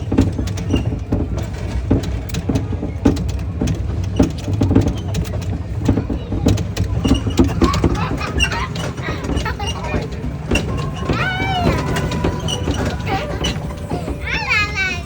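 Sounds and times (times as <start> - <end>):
rattling knocks and clacks: 0.0 - 15.0
train rumbling: 0.0 - 15.0.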